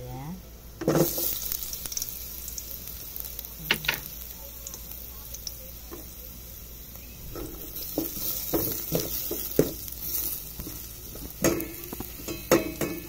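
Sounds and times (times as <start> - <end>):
ginger sizzling in hot oil: 0.1 - 13.0.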